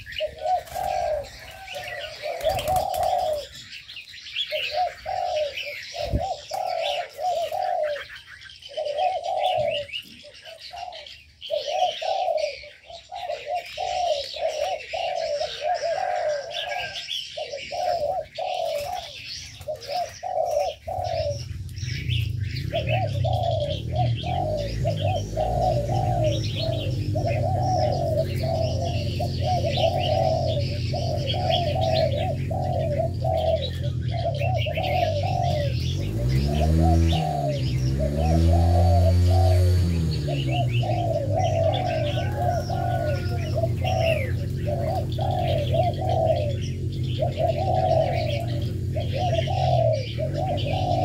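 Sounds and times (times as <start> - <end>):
doves cooing: 0.0 - 51.0
small birds chirping: 0.0 - 51.0.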